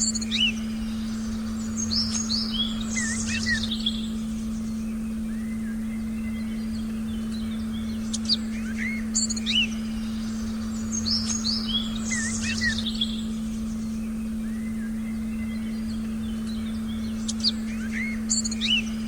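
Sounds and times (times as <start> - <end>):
forest birds chirping: 0.0 - 19.0
low meditation tone: 0.0 - 19.0.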